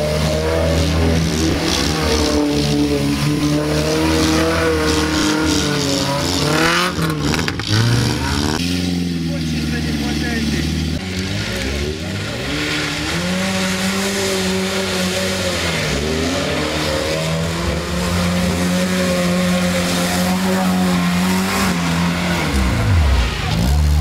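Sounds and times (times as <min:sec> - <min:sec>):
car engine revving hard: 0:00.0 - 0:24.0.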